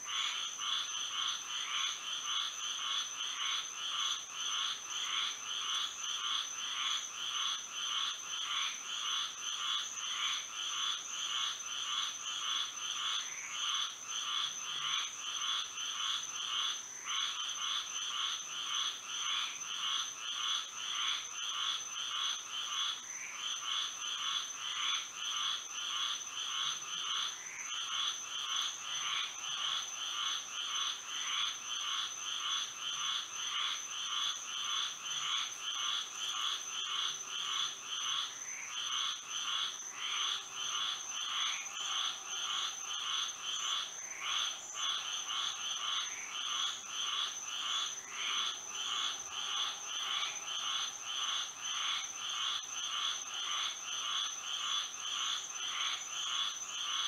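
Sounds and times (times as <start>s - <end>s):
frogs calling: 0.1s - 57.0s.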